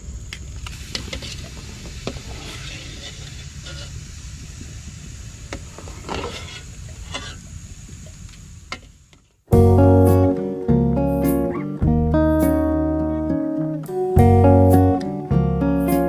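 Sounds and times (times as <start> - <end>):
insects whining: 0.0 - 13.0.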